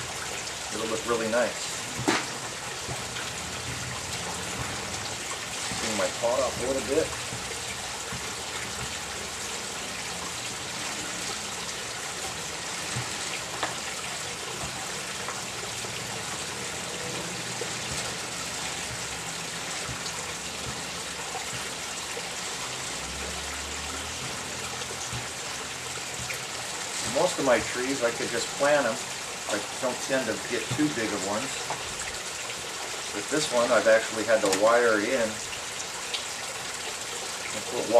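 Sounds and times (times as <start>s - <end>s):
waterfall splashing over rocks: 0.0s - 37.9s.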